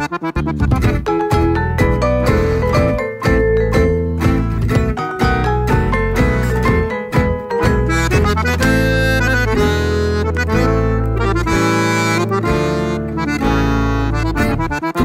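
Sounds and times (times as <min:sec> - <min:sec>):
instrumental background music: 0:00.0 - 0:15.0.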